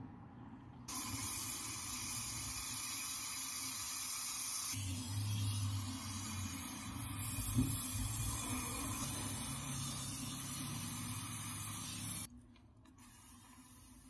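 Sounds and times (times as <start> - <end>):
gas torch hissing: 0.9 - 12.3.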